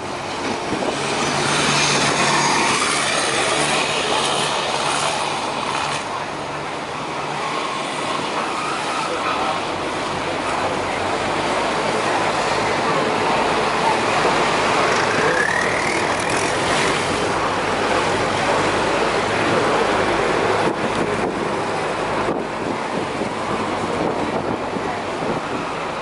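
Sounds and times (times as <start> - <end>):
boat engine drone: 0.0 - 26.0
water rushing along hull: 0.0 - 26.0
wind: 0.0 - 26.0.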